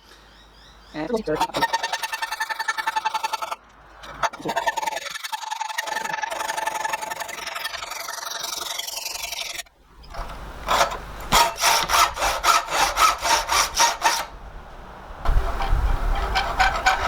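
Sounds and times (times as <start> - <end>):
hacksaw cutting metal bar: 1.3 - 14.3, 15.5 - 17.0.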